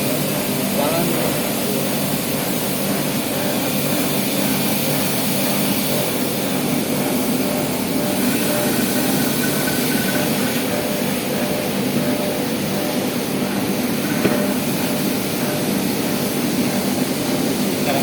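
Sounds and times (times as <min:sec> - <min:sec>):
machine drone with hiss: 0:00.0 - 0:18.0.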